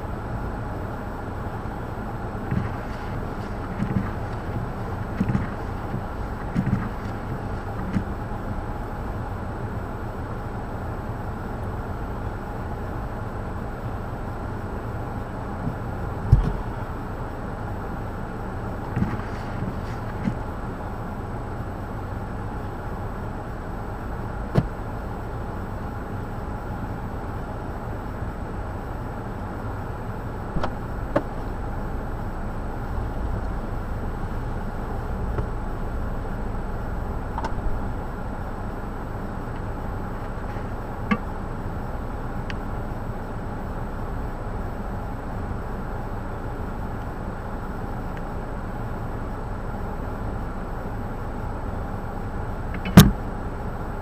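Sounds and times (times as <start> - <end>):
road vehicle rumble: 0.0 - 54.0.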